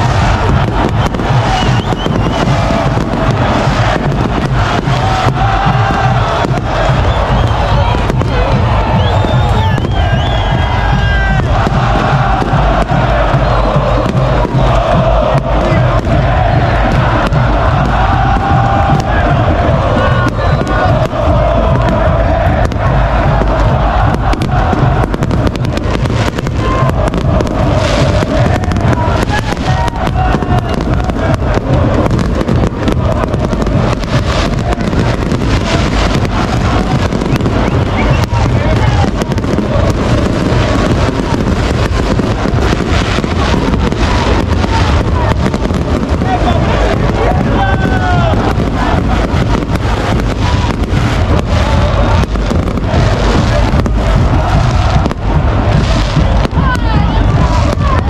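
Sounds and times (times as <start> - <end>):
crowd singing together: 0.0 - 58.0
fireworks crackling and banging: 0.0 - 58.0
wind rumble on microphone: 0.0 - 58.0.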